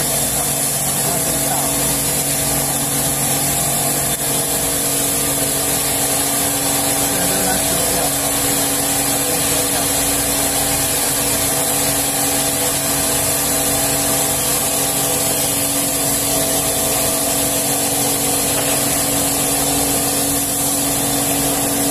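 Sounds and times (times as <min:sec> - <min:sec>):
cutting machine humming: 0:00.0 - 0:21.9.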